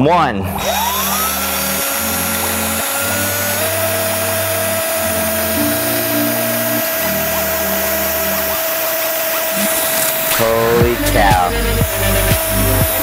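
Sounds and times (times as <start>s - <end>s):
background music: 0.0s - 13.0s
electric drill motor whine: 0.0s - 13.0s.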